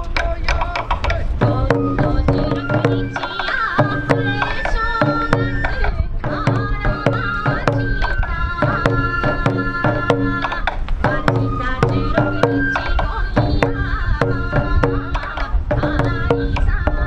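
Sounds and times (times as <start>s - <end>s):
bamboo flute melody: 0.0s - 17.0s
taiko drums beaten: 0.0s - 17.0s.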